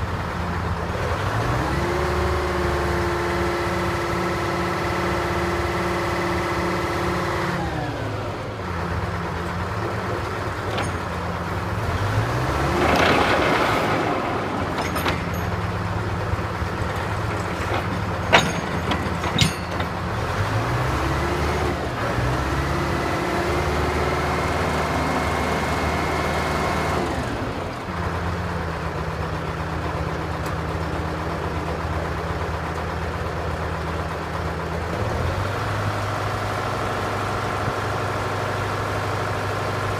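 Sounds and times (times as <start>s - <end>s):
drill rig engine running: 1.6s - 35.0s.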